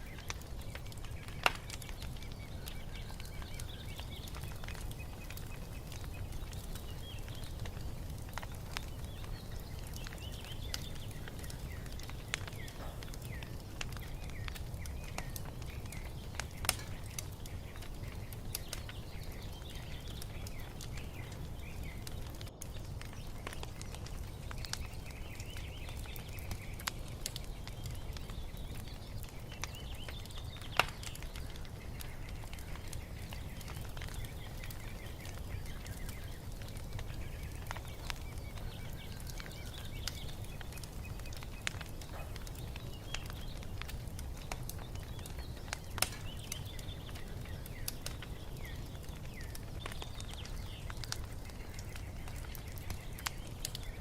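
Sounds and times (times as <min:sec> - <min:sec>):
small birds chirping: 0:00.0 - 0:54.0
wood fire crackling and popping: 0:00.0 - 0:54.0.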